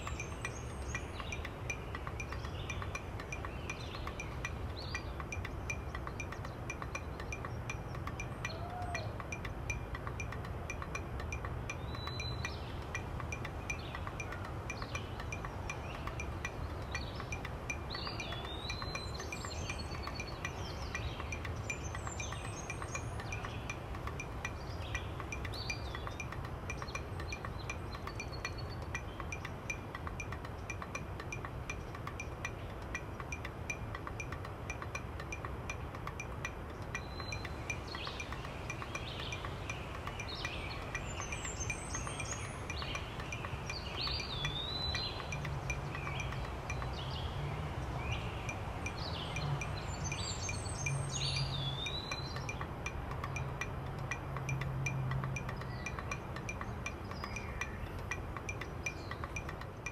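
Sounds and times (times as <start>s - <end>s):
light chiming: 0.0s - 59.9s.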